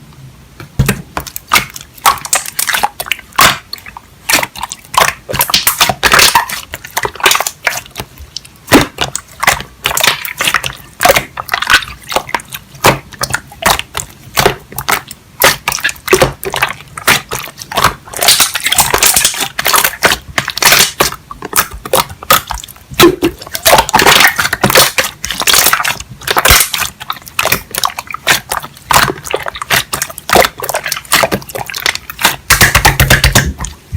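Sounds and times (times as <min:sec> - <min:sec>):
slime squished by hand: 0:00.8 - 0:33.8.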